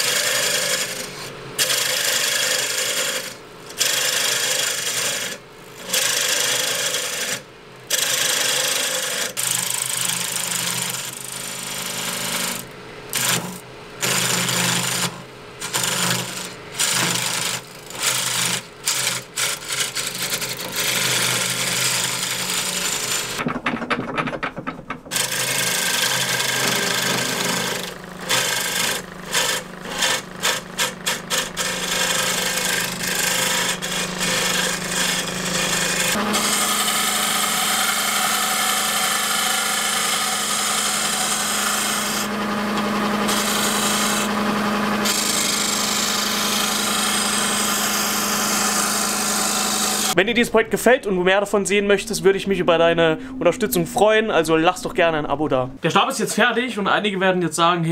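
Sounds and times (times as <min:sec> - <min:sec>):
lathe humming: 0:00.0 - 0:23.4, 0:25.1 - 0:55.8
chisel scraping spinning wood: 0:00.0 - 0:50.5.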